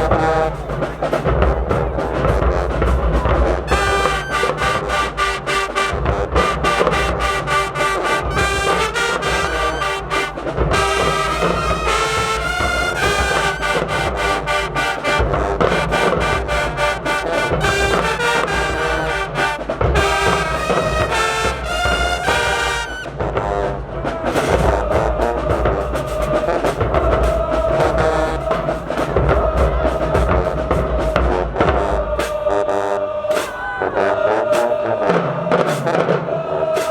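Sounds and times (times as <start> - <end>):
steady drum beat: 0.0 - 33.6, 34.5 - 36.0, 36.7 - 36.9
brass chords: 0.0 - 36.9
marching band playing: 0.0 - 36.9.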